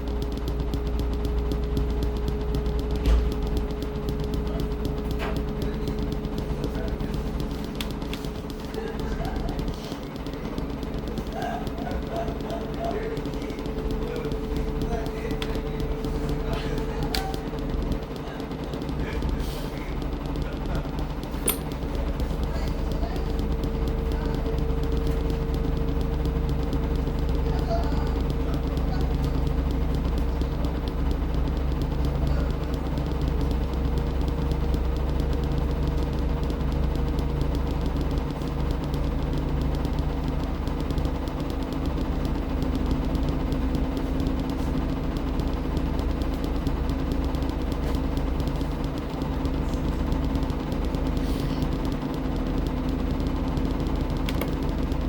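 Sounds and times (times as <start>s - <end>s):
fine even ticking: 0.0s - 55.0s
washing machine motor hum: 0.0s - 55.0s.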